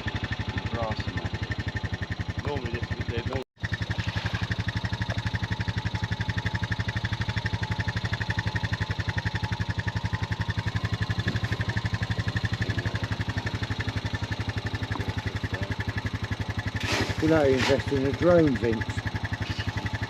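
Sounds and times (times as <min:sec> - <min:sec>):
engine throbbing steadily: 0:00.0 - 0:20.0.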